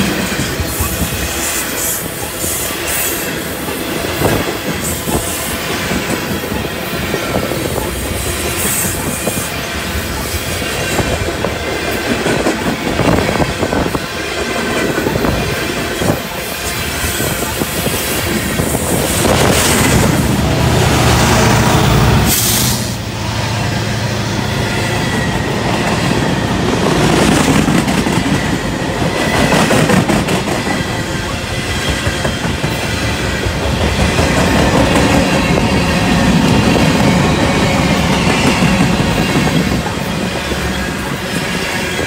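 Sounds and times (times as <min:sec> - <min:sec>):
train wheels clacking over rail joints: 0:00.0 - 0:20.4, 0:24.6 - 0:42.0
diesel locomotive engine drone: 0:00.0 - 0:42.0.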